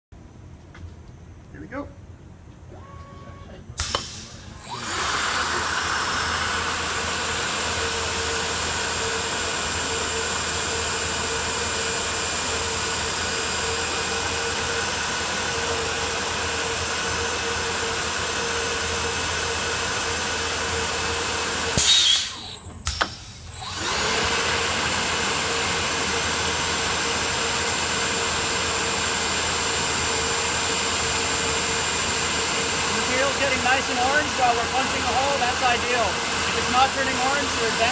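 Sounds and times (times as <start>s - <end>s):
drilling machine running: 3.8s - 37.9s.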